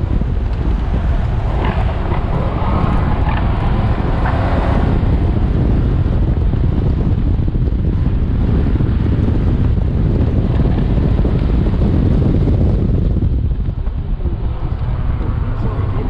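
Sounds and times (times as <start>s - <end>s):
sports car engine accelerating: 0.0s - 16.0s
wind buffeting on microphone: 0.0s - 16.0s.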